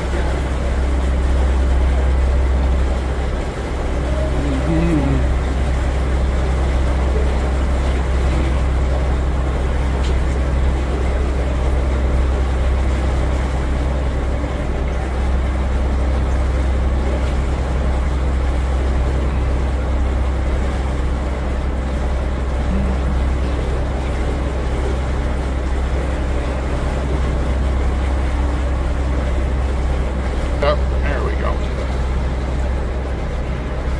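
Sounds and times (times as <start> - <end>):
boat engine rumbling: 0.0 - 33.9.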